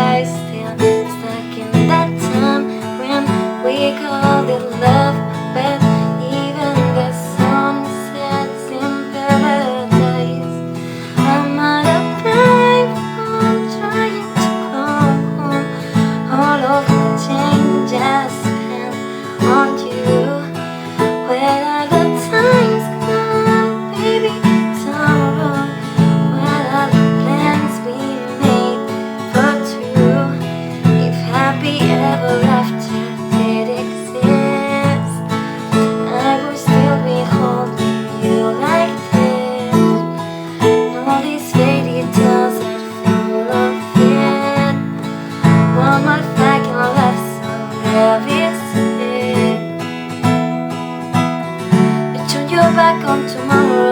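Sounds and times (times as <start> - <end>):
acoustic guitar strumming: 0.0 - 53.9.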